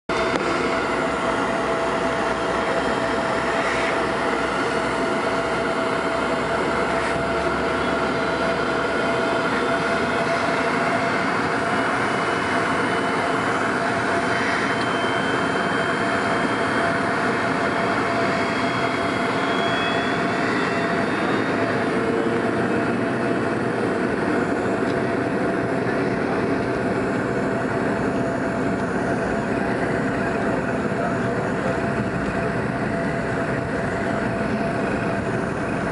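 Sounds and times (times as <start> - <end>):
jet engines rumbling in cabin: 0.1 - 35.9
steady engine whine: 0.1 - 35.9.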